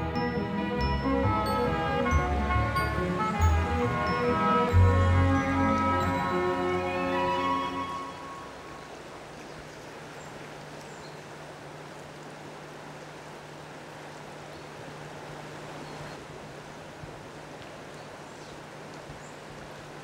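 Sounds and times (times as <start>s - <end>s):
river flowing: 0.0s - 20.0s.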